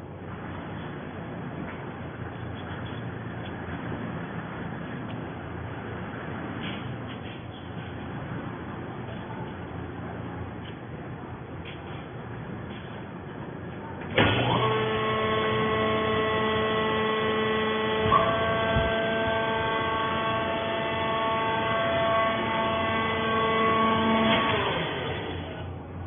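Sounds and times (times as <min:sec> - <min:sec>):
baling machine whining hum: 0:00.0 - 0:26.0.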